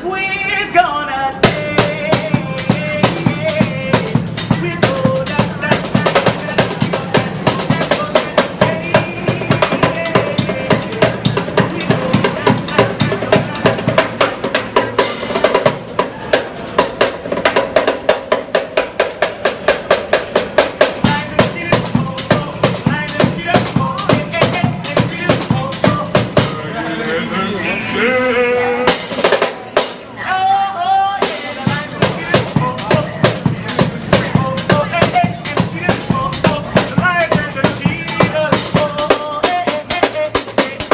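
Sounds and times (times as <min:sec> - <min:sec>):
person singing: 0:00.0 - 0:16.6, 0:21.0 - 0:29.2, 0:30.1 - 0:40.9
drum kit groove: 0:01.3 - 0:26.6, 0:28.9 - 0:30.2, 0:31.2 - 0:40.9.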